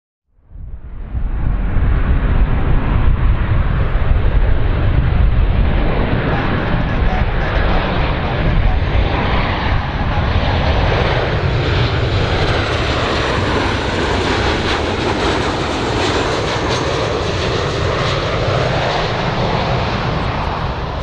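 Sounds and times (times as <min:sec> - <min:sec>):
jet airliner passing low: 0:00.4 - 0:21.0.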